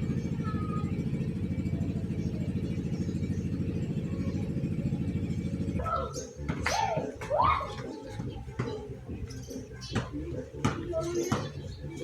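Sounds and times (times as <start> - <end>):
pulsing low engine rumble: 0.0 - 12.0.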